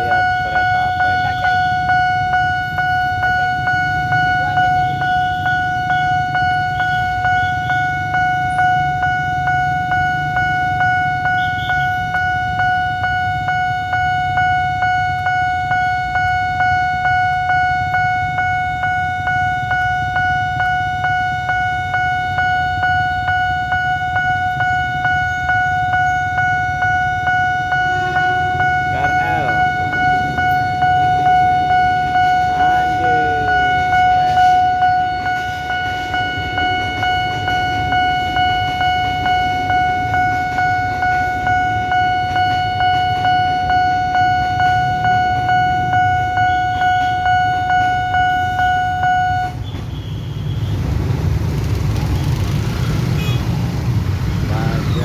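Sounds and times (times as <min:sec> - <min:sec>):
level crossing bell ringing: 0:00.0 - 0:49.6
low rumble of traffic: 0:00.0 - 0:55.0.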